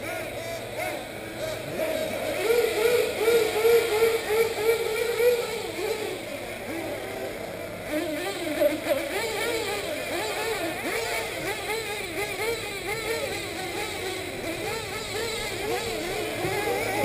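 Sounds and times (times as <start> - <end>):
small engines revving and whining: 0.0 - 17.0.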